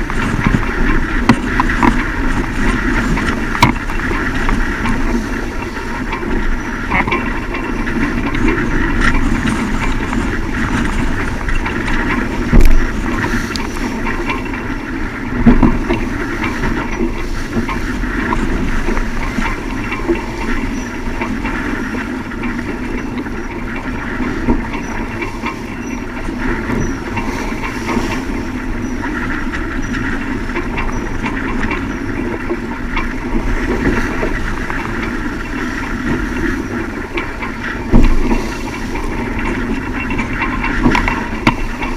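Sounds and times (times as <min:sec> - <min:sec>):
rushing sea: 0:00.0 - 0:41.9
strong wind: 0:00.0 - 0:41.9.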